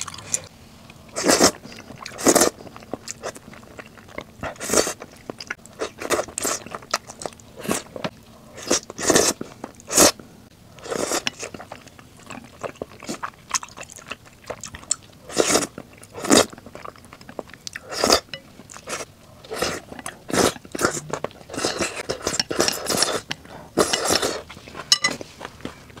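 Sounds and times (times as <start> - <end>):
chewing and slurping noodles: 0.0 - 10.2, 10.8 - 26.0.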